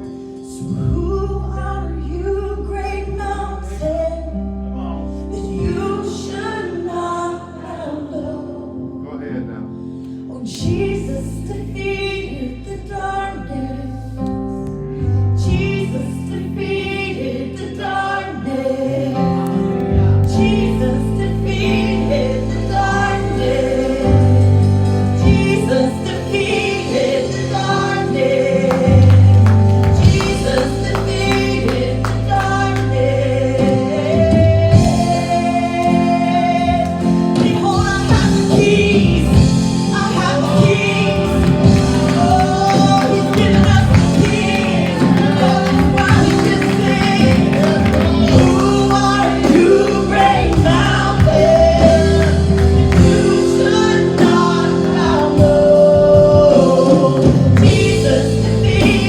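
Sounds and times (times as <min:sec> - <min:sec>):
group of singers: 0:00.0 - 0:08.9, 0:15.4 - 0:59.0
band with held bass notes: 0:10.5 - 0:59.0.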